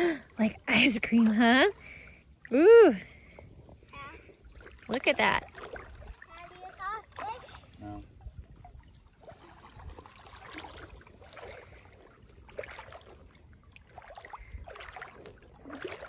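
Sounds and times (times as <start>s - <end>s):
stream trickling over stones: 0.1s - 16.0s.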